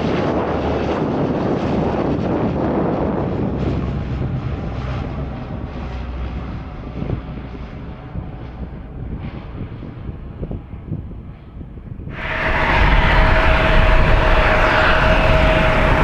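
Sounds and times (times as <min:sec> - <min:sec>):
propeller plane climbing: 0:00.0 - 0:16.0.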